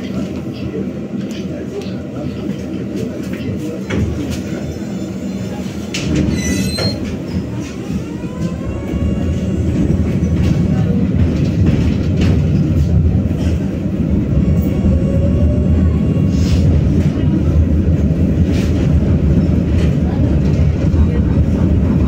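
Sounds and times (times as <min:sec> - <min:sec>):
tram drive whine: 0:00.0 - 0:22.0
tram wheels rumbling on track: 0:00.0 - 0:22.0.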